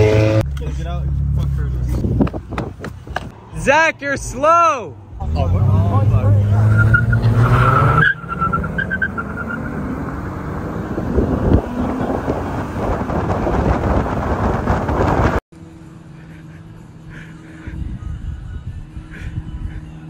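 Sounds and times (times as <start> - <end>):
engine and road noise rush: 0.0 - 20.0.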